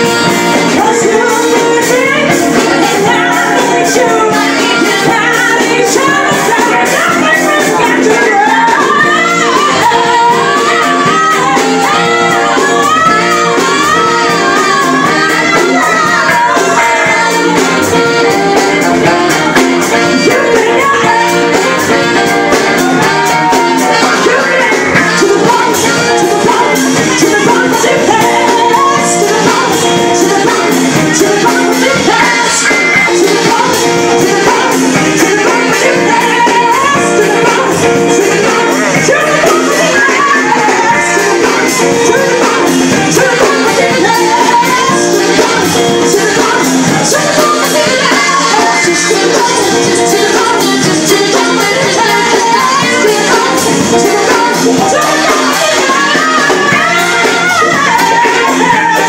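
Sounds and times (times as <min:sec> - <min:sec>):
drums: 0:00.0 - 0:59.0
electric guitar: 0:00.0 - 0:59.0
woman singing lead vocals: 0:00.0 - 0:59.0.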